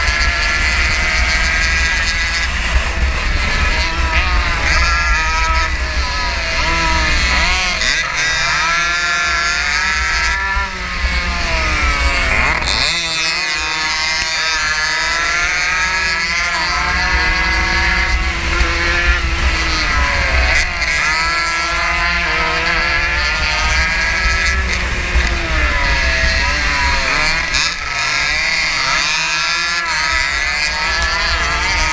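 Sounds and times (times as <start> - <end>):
racing motorcycle engine revving: 0.0 - 31.9
wind rumble on microphone: 0.0 - 31.9.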